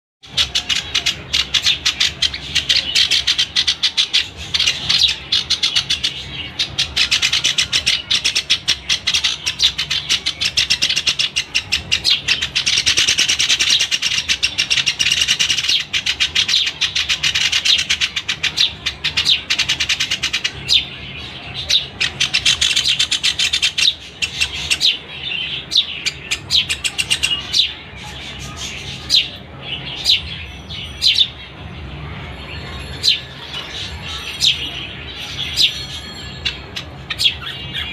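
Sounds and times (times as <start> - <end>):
young sparrows chirping: 0.2 - 37.9.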